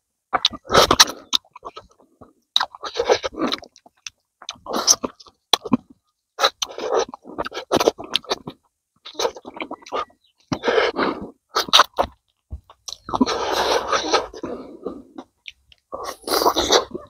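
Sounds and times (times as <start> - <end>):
man chewing and biting: 0.3 - 17.0.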